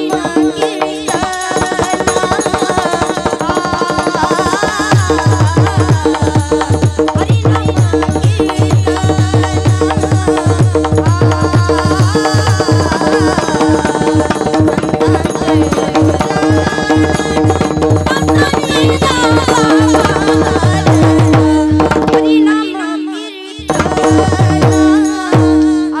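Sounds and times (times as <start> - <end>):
fast hand drum rhythm: 0.0 - 22.7, 23.6 - 26.0
women singing: 0.0 - 26.0.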